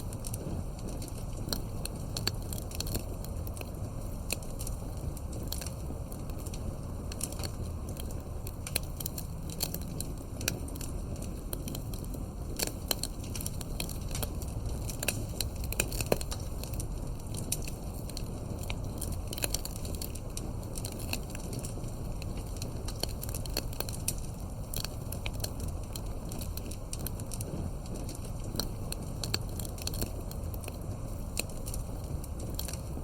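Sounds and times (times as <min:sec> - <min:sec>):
campfire crackling: 0:00.0 - 0:33.0
low background noise: 0:00.0 - 0:33.0.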